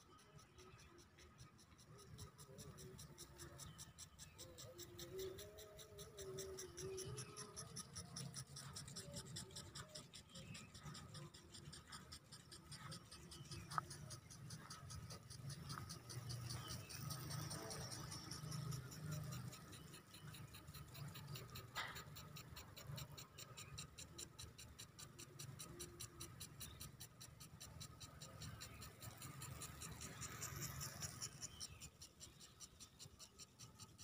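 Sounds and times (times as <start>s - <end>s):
sprinklers ticking and hissing: 0.0s - 34.0s.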